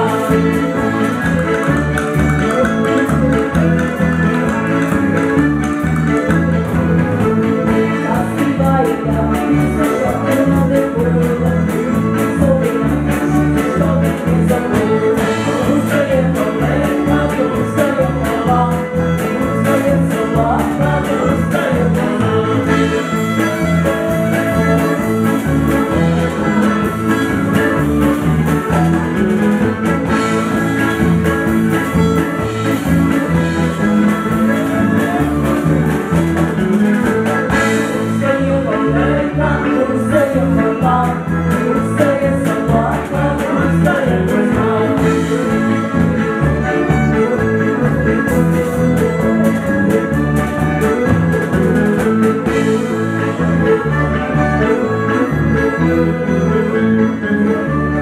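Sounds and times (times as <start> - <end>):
accordion: 0.0 - 58.0
dance band playing lively tune: 0.0 - 58.0
fiddle: 0.0 - 58.0.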